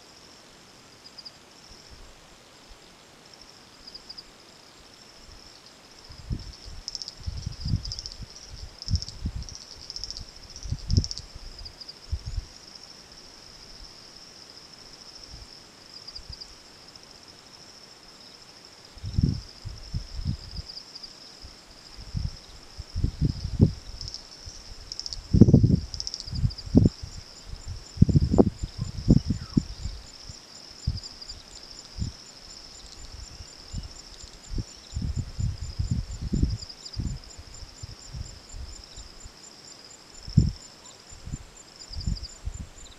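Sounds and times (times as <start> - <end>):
insects trilling: 2.7 - 42.9.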